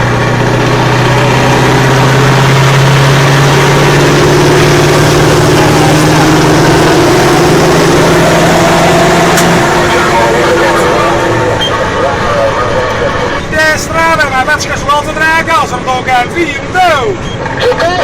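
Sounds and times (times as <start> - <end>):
truck diesel engine revving: 0.0 - 18.0.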